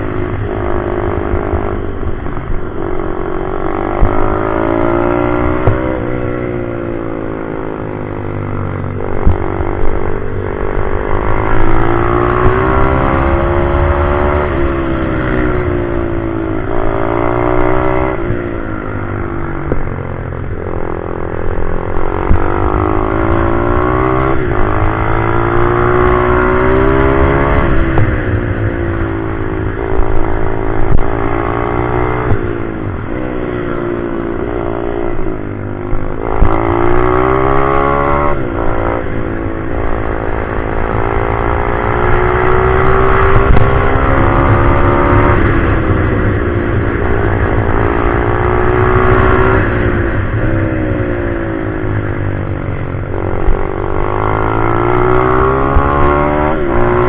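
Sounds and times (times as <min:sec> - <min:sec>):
motorbike engine accelerating: 0:00.0 - 0:57.0.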